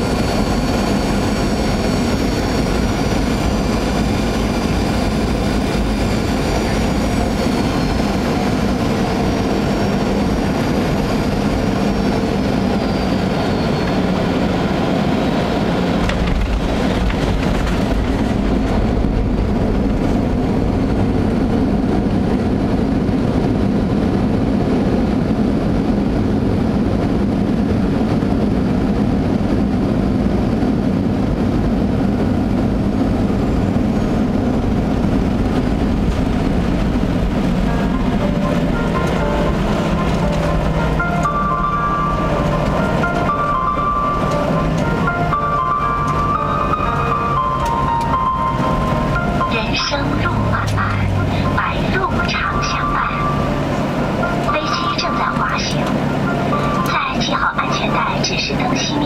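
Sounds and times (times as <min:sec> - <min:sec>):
jet engine whine: 0:00.0 - 0:59.0
low rumble of rollout: 0:00.0 - 0:59.0.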